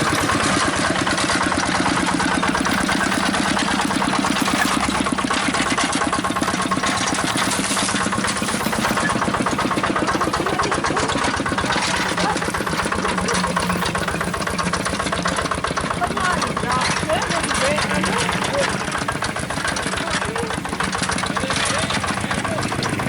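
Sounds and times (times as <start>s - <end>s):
small engine chugging: 0.0s - 23.0s.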